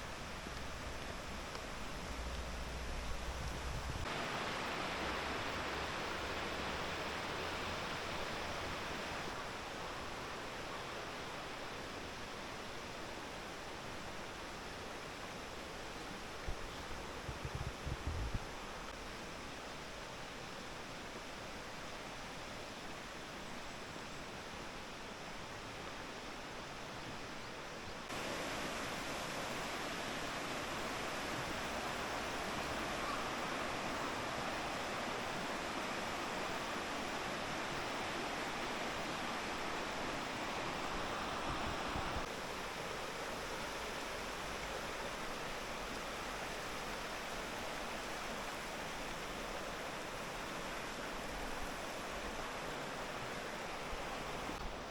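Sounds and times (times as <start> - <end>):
stream water over rocks: 0.0 - 54.9.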